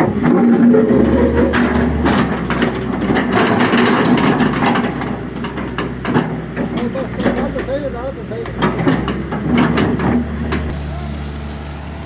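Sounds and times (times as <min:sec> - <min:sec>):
mechanical clatter and clanks: 0:00.0 - 0:10.8
excavator engine drone: 0:00.0 - 0:12.0.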